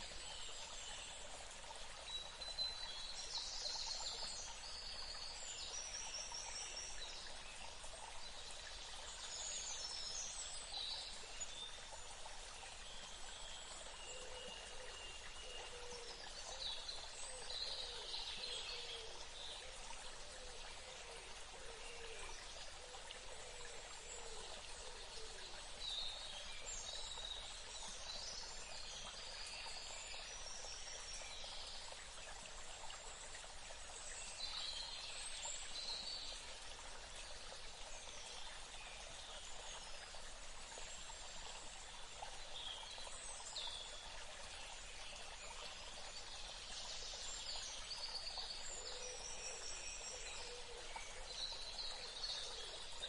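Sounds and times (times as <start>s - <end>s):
flowing water: 0.0s - 53.0s.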